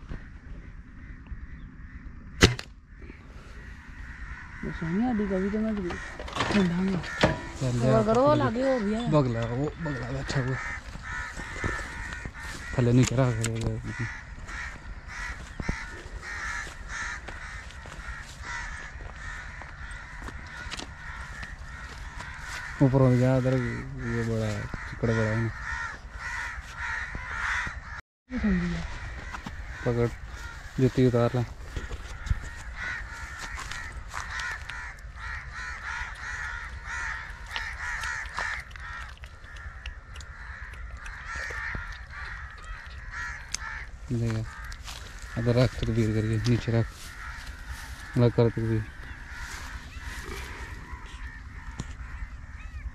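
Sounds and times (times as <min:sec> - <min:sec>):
crows cawing: 0:00.0 - 0:52.9
flock of birds calling harshly: 0:02.9 - 0:28.0, 0:28.7 - 0:52.9.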